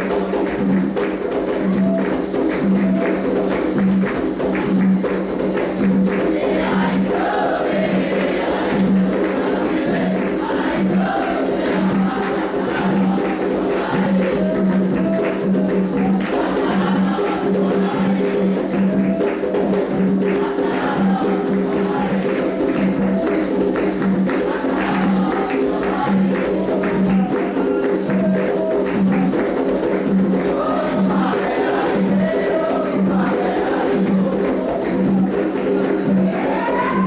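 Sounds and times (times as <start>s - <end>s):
fast hand drums: 0.0s - 37.0s
voices singing: 5.7s - 37.0s.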